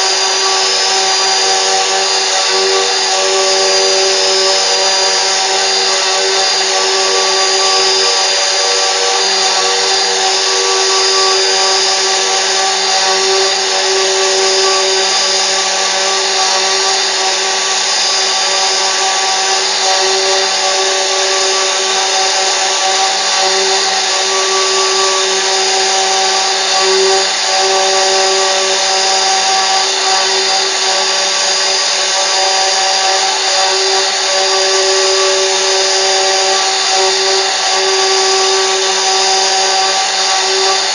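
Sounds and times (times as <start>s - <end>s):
router spindle whining while cutting: 0.0s - 40.9s.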